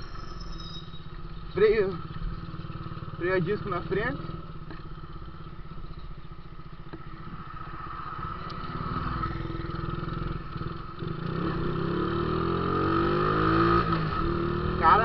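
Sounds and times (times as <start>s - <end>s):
motorcycle engine riding: 0.0s - 15.0s.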